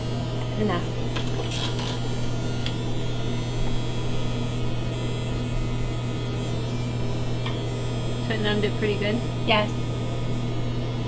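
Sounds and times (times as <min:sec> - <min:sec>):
tattoo machine buzzing: 0:00.0 - 0:11.0.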